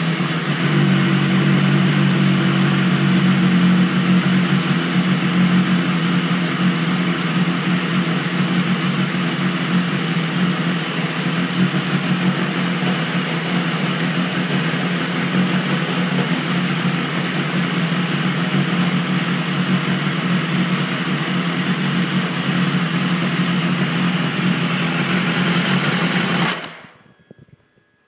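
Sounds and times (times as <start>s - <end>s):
motorcycle engine idling roughly: 0.0s - 27.0s.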